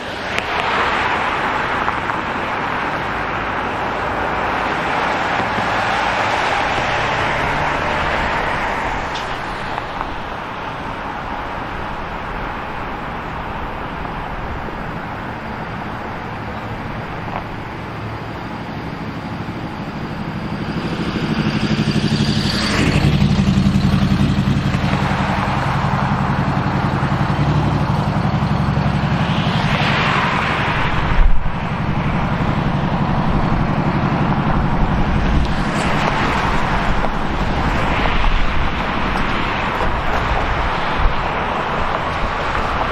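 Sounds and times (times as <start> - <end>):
cars passing: 0.0 - 42.9
vehicle engine droning: 0.0 - 42.9.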